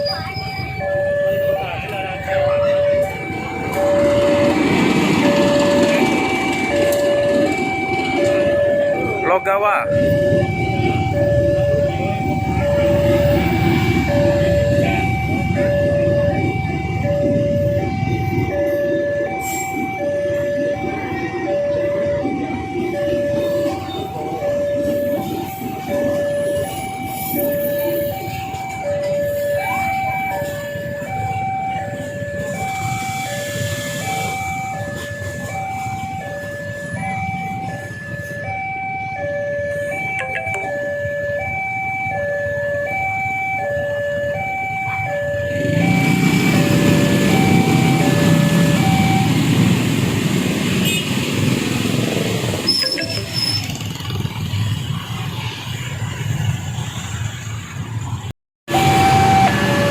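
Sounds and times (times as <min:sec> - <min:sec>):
traffic rumble: 0:00.0 - 0:59.9
two-tone crossing warning alarm: 0:00.0 - 0:59.9.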